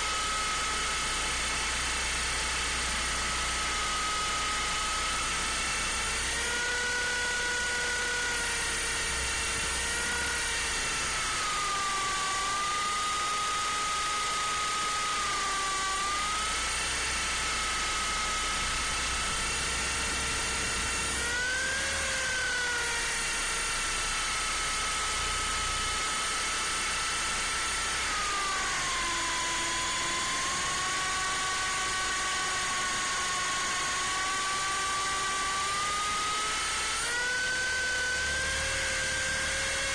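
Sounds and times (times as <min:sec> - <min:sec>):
toy helicopter rotors whining: 0:00.0 - 0:39.9.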